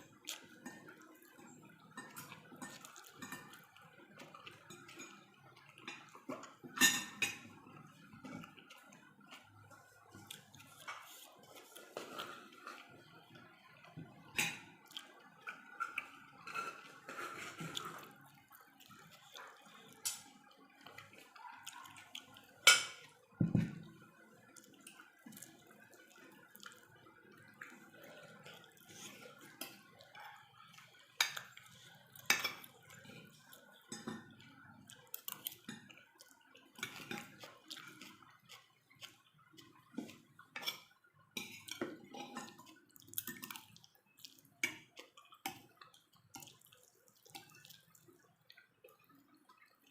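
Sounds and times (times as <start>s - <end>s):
wet chewing and smacking: 0.0s - 49.9s.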